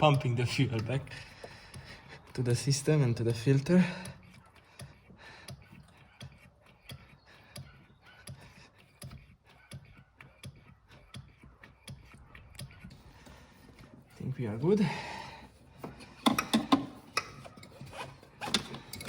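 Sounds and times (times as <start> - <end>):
hand pump clicking and thumping: 0.0 - 19.0.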